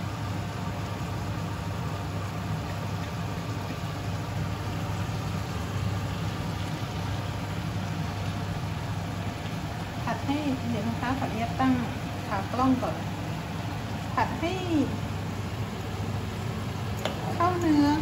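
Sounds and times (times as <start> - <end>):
food stir-frying in a pan: 0.0 - 18.0.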